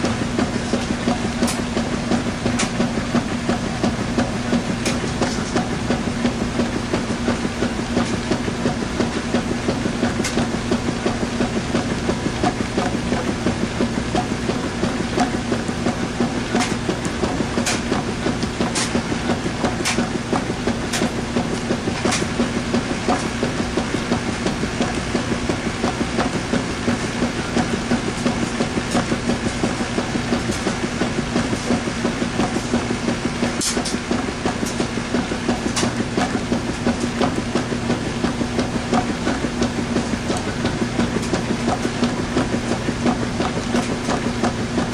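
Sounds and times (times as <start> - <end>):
washing machine drum churning: 0.0 - 44.9
washing machine motor hum: 0.0 - 44.9.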